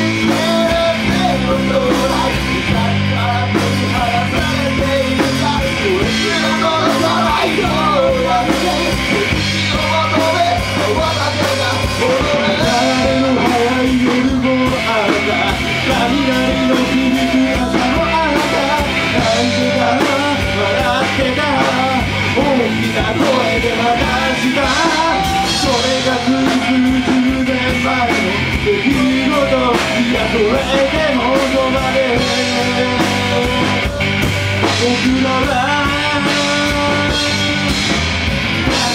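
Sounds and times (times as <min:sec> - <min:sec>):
bass guitar: 0:00.0 - 0:38.9
electric guitar: 0:00.0 - 0:38.9
person singing: 0:00.0 - 0:38.9.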